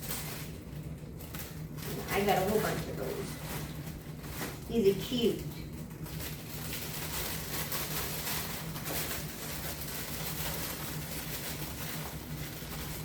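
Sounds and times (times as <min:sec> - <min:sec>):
packaging rustling: 0:00.0 - 0:13.0
steady low hum: 0:00.0 - 0:13.0.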